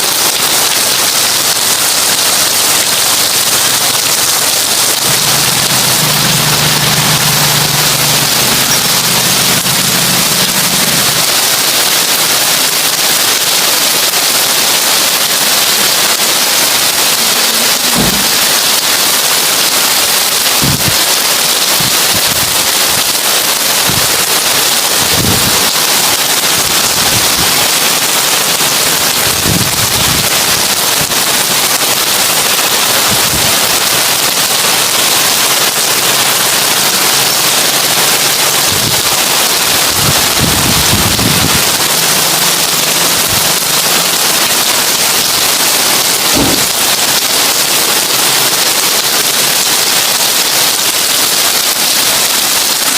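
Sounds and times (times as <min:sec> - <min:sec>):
heavy rain on a tin roof: 0:00.0 - 0:52.9.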